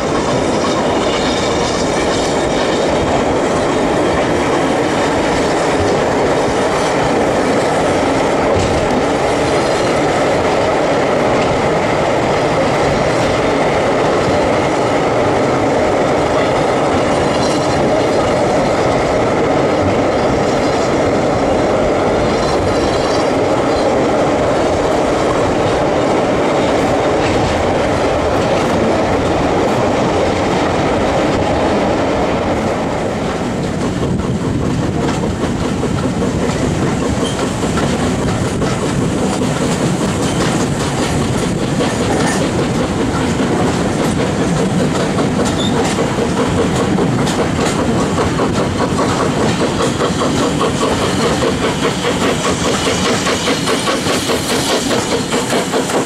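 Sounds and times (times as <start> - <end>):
train running noise: 0.0 - 56.0
train wheels clickety-clack: 0.0 - 56.0.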